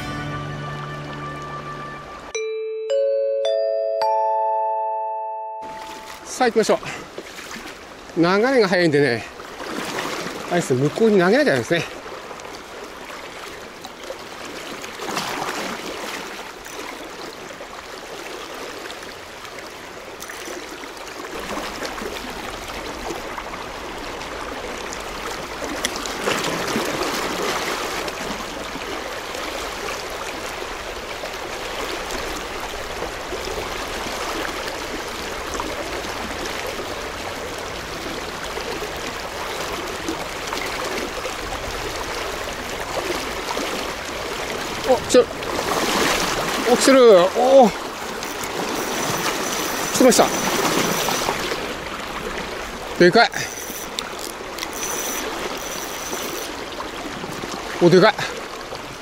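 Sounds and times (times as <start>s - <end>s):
river water rushing: 5.6s - 59.0s.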